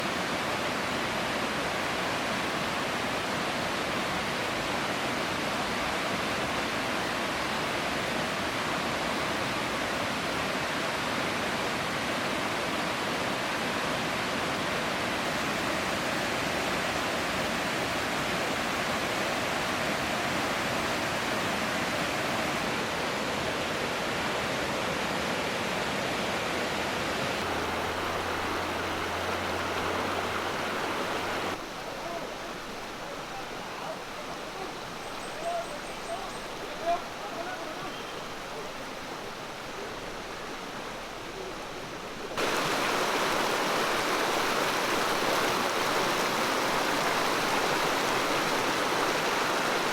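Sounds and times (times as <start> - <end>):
river water flowing: 0.0 - 21.2, 27.3 - 49.9.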